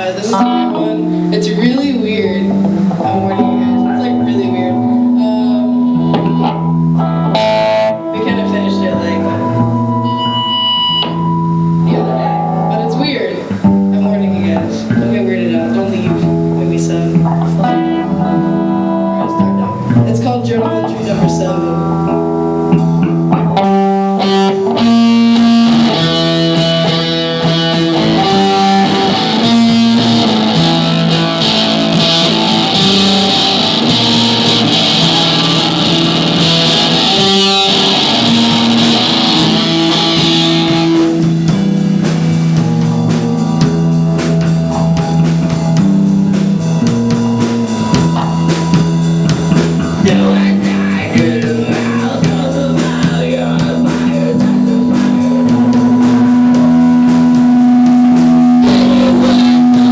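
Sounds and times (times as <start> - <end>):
rock band guitar playing: 0.0 - 59.9.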